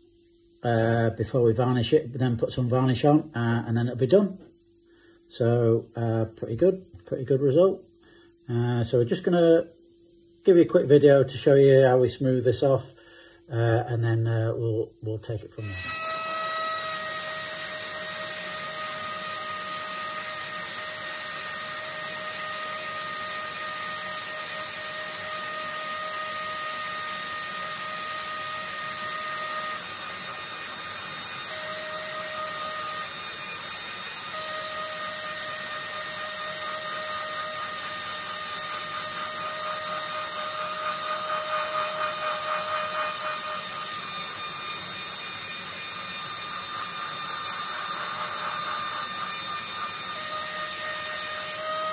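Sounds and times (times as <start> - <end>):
air scribe buzzing and hissing: 0.0 - 51.9.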